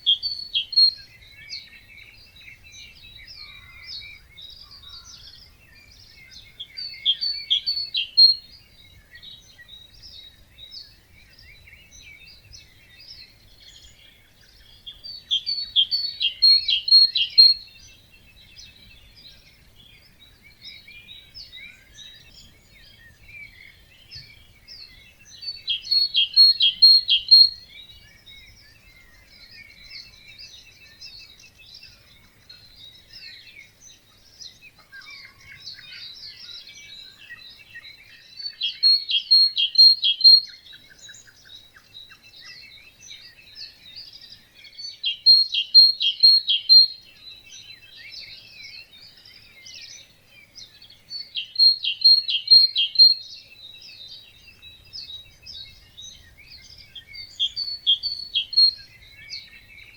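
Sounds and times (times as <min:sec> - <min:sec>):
birds chirping: 0:00.0 - 0:59.9
songbird singing loudly: 0:00.0 - 0:59.9.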